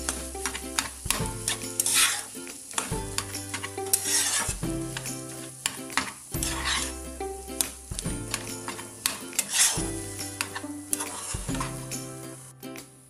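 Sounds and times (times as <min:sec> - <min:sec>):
spatula scraping a pan: 0:00.0 - 0:12.1
background music: 0:00.0 - 0:13.0
food sizzling: 0:00.0 - 0:13.0.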